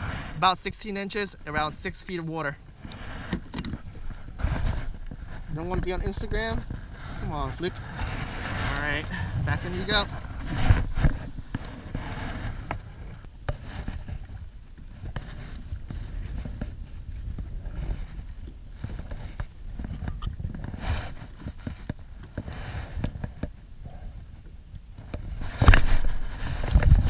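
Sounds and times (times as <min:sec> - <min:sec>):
water lapping around kayak: 0:00.0 - 0:27.0
wind rumbling on microphone: 0:00.0 - 0:27.0.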